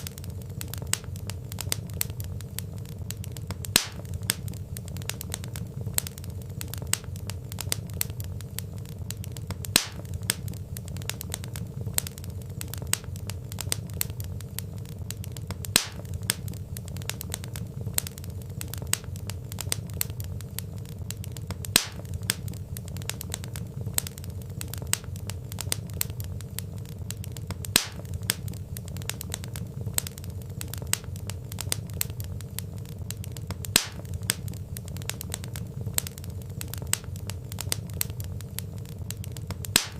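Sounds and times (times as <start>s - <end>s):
loud fire pops: 0.0s - 39.9s
low steady fire rumble: 0.0s - 39.9s
wood fire crackling: 0.0s - 39.9s.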